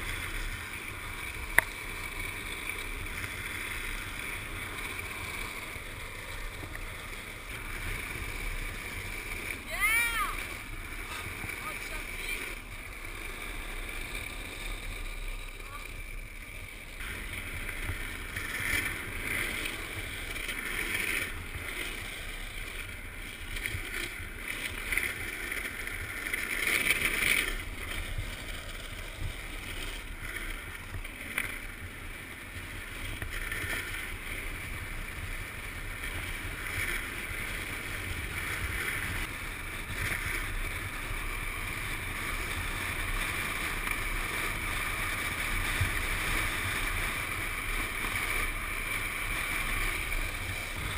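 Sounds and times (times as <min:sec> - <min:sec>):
wheels rumbling on asphalt: 0:00.0 - 0:50.9.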